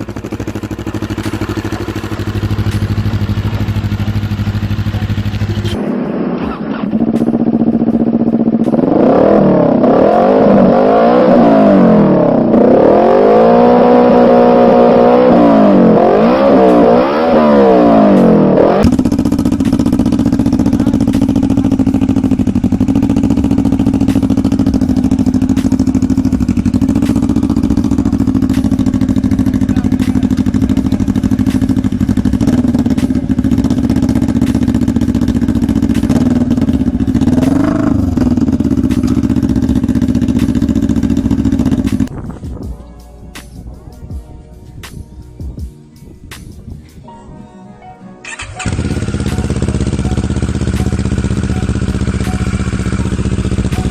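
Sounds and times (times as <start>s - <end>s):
motorcycle engine revving: 0.0s - 42.5s, 48.2s - 53.9s
steady engine note: 0.0s - 45.7s, 48.2s - 53.9s.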